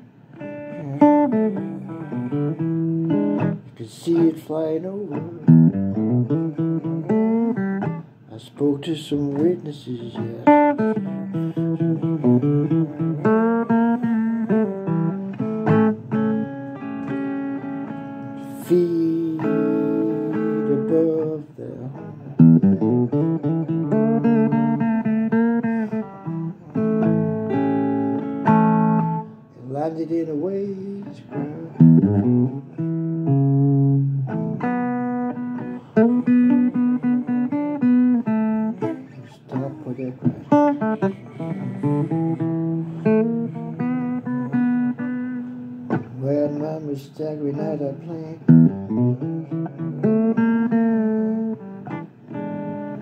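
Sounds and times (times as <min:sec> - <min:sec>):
blues guitar picking: 0:00.0 - 0:53.0.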